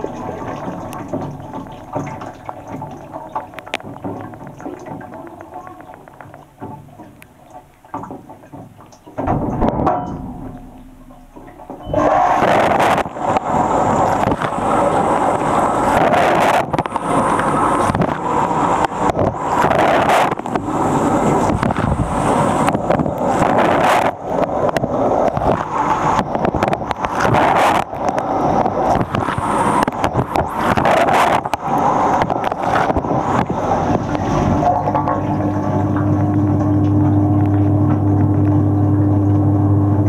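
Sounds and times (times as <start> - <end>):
dishwasher water jets splashing: 0.0 - 40.0.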